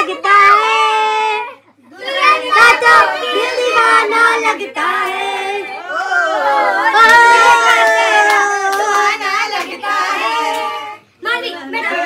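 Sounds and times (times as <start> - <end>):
group singing without instruments: 0.0 - 6.9, 8.7 - 12.0.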